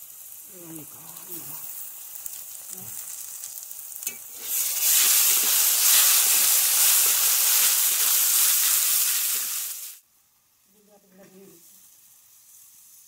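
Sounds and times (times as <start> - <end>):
onions frying in hot oil: 0.0 - 13.0.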